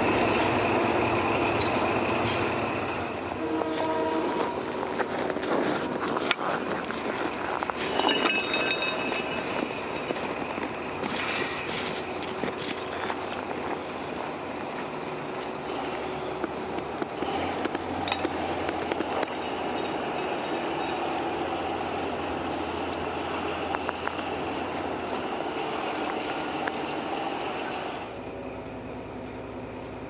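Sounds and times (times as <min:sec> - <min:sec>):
locomotive rumbling on tracks: 0:00.0 - 0:30.0.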